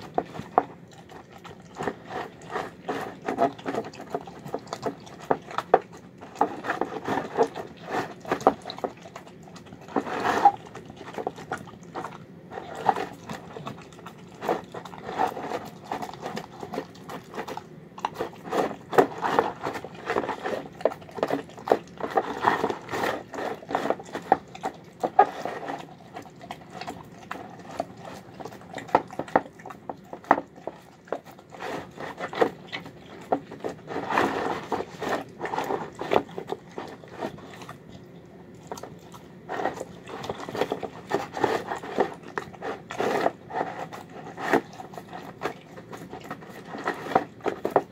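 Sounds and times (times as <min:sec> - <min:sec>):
dog chewing and lapping: 0:00.0 - 0:47.9.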